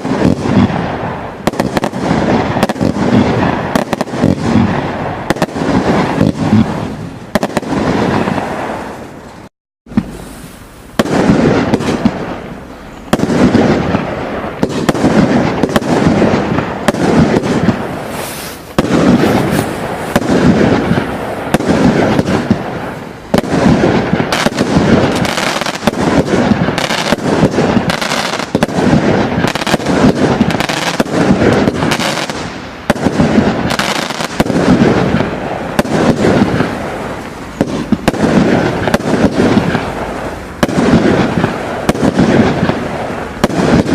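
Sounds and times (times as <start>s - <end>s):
firework bangs: 0.0s - 43.9s
firework crackling: 0.0s - 43.9s.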